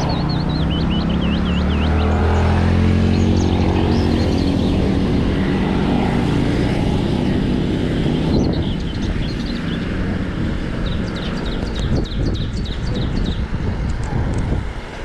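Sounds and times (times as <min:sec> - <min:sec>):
birds chirping: 0:00.0 - 0:14.1.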